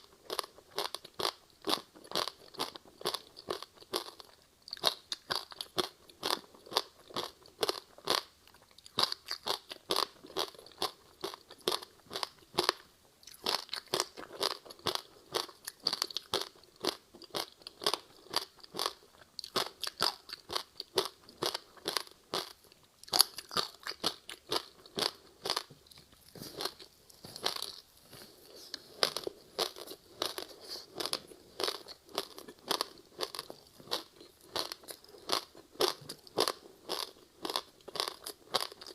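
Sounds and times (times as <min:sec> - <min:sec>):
ice being crunched and chewed: 0:00.1 - 0:27.8, 0:28.4 - 0:38.9.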